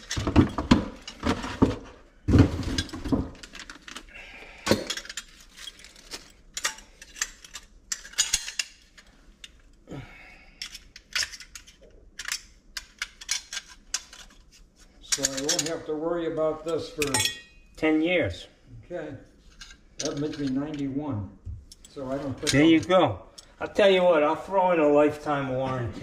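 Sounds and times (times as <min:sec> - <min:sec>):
hardware clinking and clattering: 0:00.0 - 0:09.8, 0:10.5 - 0:17.9, 0:19.4 - 0:23.8.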